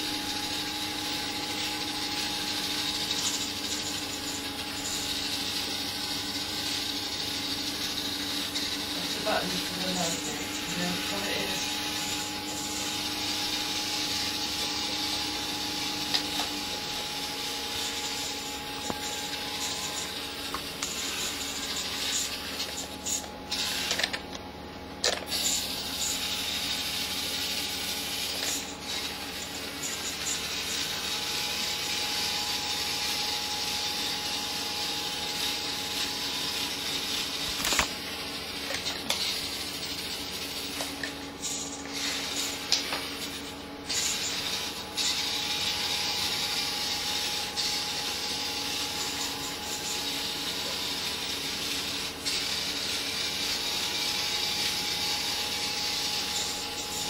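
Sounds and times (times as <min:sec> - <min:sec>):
electric motor whirring: 0:00.0 - 0:57.0.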